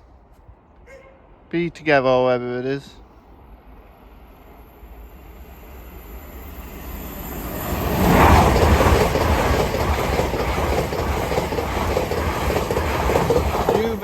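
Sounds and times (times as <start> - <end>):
high-speed train passing: 1.3 - 14.0.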